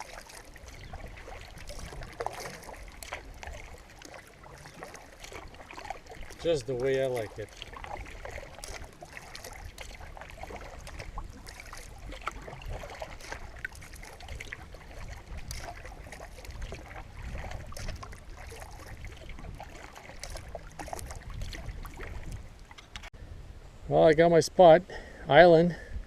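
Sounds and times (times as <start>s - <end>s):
paddle water splashing and dripping: 0.0s - 23.1s.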